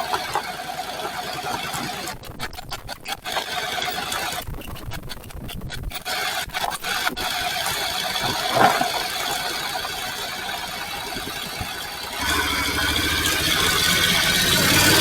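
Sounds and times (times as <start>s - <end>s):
motorcycle engine chattering: 0.0s - 15.0s.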